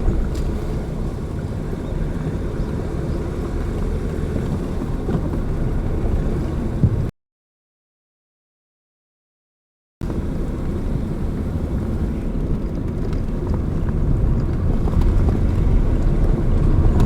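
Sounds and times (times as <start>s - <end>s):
car driving rumble: 0.0s - 7.1s, 10.0s - 17.0s.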